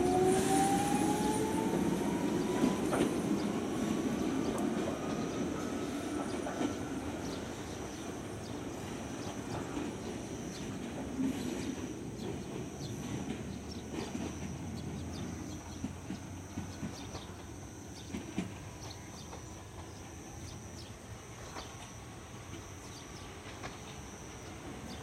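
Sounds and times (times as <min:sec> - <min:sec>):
train rumble: 0:00.0 - 0:25.0.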